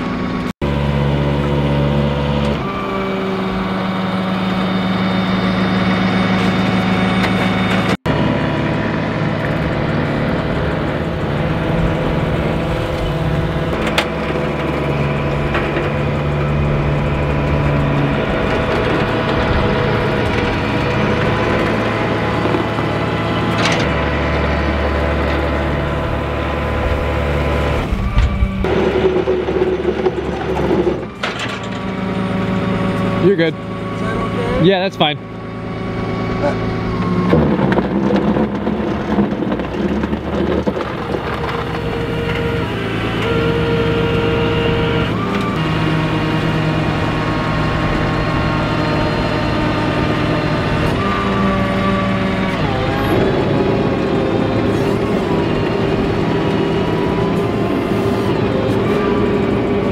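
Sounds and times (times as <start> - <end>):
deeper hum: 0.0 - 59.9
tow truck engine and winch: 0.0 - 59.9.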